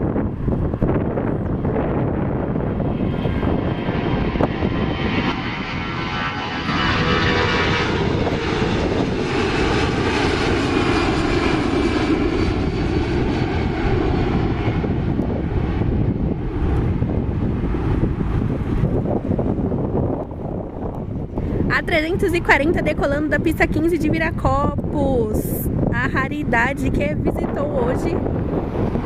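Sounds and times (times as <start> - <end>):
jet airliner taking off: 0.0 - 29.0.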